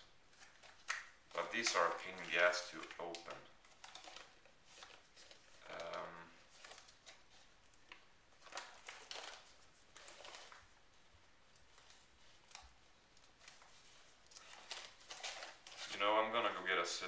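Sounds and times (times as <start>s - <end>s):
envelope crinkling and ripping: 0.3s - 10.8s, 11.7s - 16.7s.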